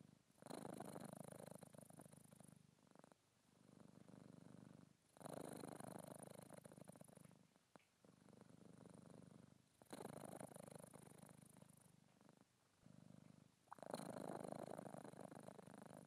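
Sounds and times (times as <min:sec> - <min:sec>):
cat purring softly: 0:00.0 - 0:16.0.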